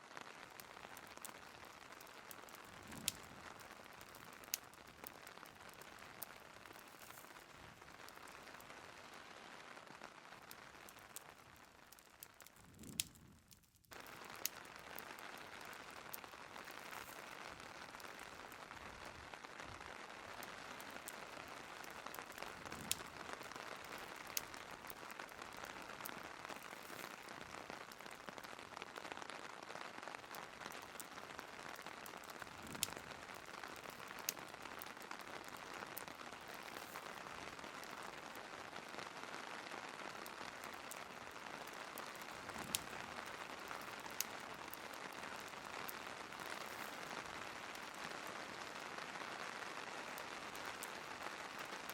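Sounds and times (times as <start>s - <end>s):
fire crackling pops: 0.0s - 51.9s
steady rain hiss: 0.0s - 51.9s.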